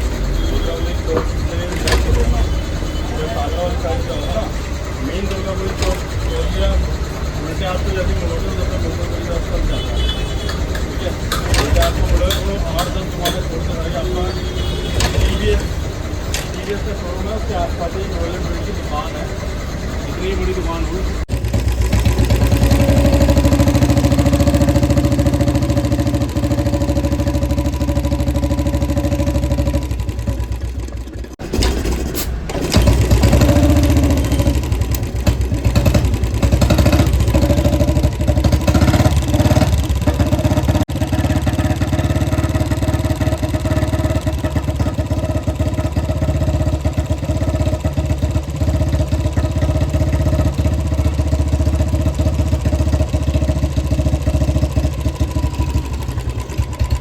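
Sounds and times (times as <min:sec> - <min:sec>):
motorcycle engine thumping: 0:00.0 - 0:57.0.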